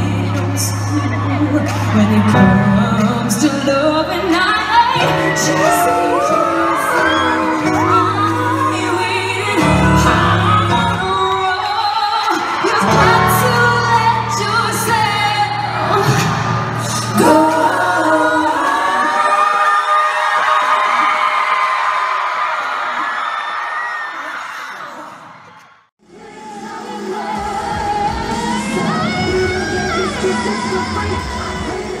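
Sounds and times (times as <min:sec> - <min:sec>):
women singing pop: 0:00.0 - 0:21.0, 0:26.0 - 0:32.0.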